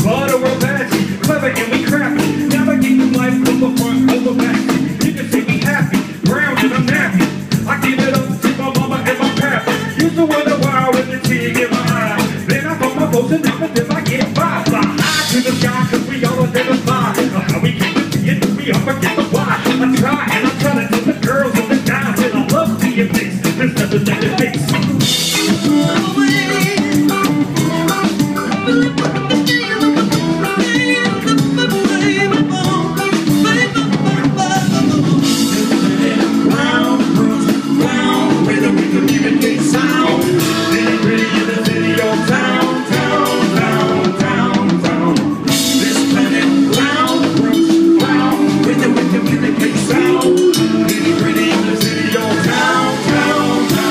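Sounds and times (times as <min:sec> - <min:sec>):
people singing: 0:00.0 - 0:27.4, 0:29.6 - 0:53.9
drum kit: 0:00.0 - 0:53.9
guitar: 0:00.0 - 0:53.9.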